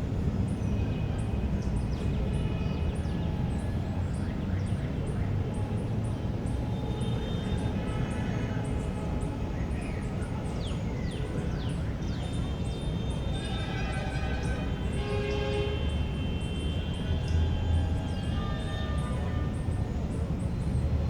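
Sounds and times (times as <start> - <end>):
distant traffic rumble: 0.0 - 21.0.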